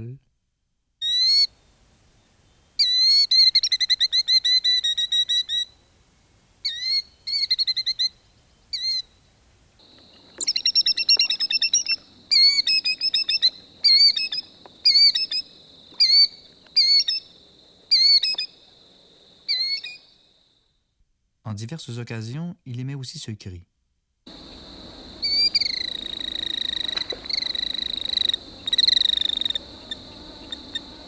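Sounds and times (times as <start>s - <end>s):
killdeer alarm calls: 1.0s - 20.2s, 24.3s - 31.0s
background hiss and hum: 1.2s - 20.7s, 24.3s - 31.0s.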